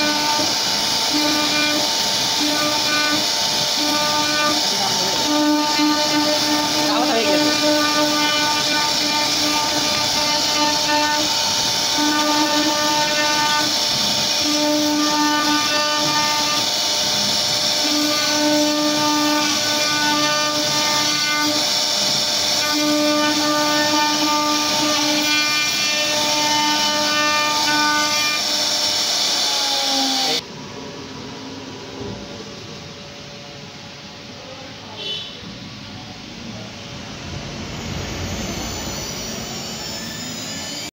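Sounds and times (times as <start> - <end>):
pitched whine of router bit: 0.0 - 30.4, 36.2 - 40.9
router milling wood: 0.0 - 30.4, 37.2 - 40.9.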